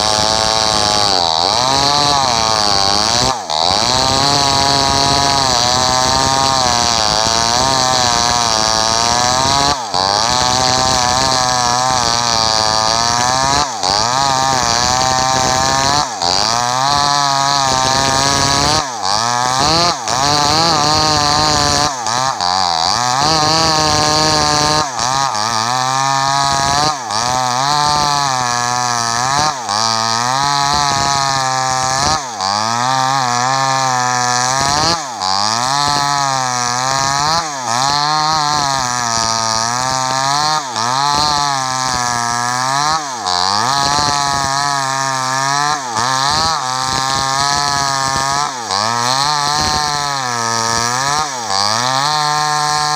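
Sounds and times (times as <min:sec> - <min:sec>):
chainsaw ripping a log: 0:00.0 - 0:52.9.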